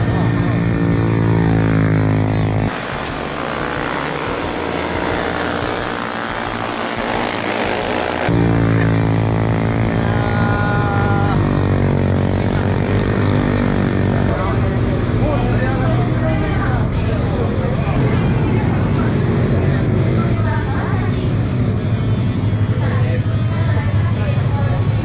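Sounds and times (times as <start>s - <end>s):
racing motorcycle engine: 0.0s - 25.0s.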